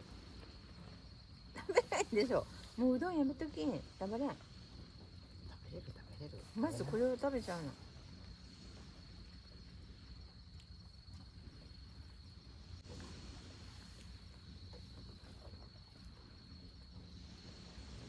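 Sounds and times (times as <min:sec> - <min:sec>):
crickets trilling: 0:00.0 - 0:18.0
low background rumble: 0:00.0 - 0:18.0.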